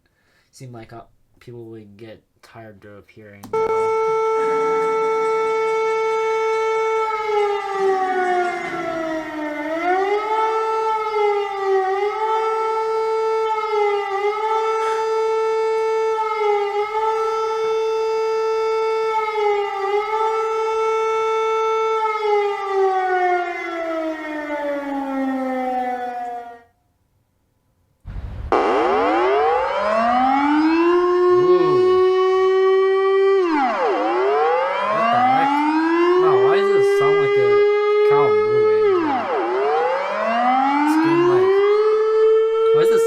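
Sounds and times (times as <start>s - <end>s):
civil defense warning siren: 3.6s - 27.0s, 28.5s - 43.0s.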